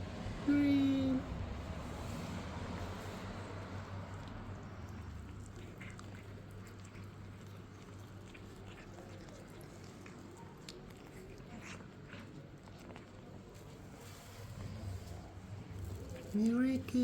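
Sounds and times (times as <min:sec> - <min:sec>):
cats chewing: 0:00.0 - 0:17.0.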